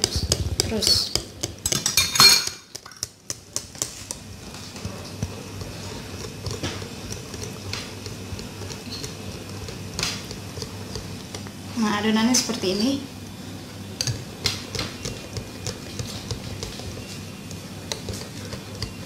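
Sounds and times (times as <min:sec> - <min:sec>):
whisk tapping glass bowl: 0:00.0 - 0:11.6, 0:14.0 - 0:19.0
whisk stirring batter: 0:00.0 - 0:19.0.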